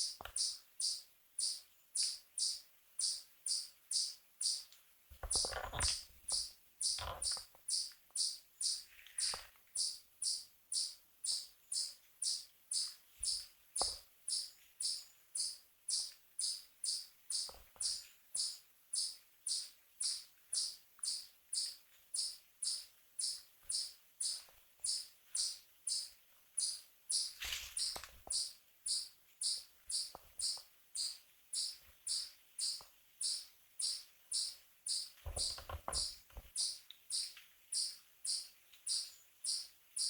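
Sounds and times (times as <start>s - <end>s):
insect chirping: 0.0s - 4.7s, 5.3s - 39.7s.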